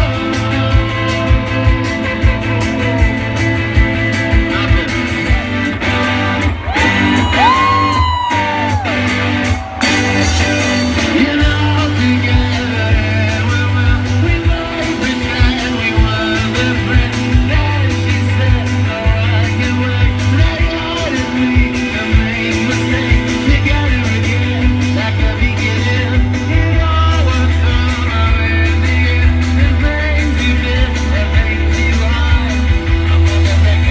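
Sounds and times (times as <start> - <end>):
live rock band playing: 0.0 - 33.9
person singing: 6.6 - 33.9.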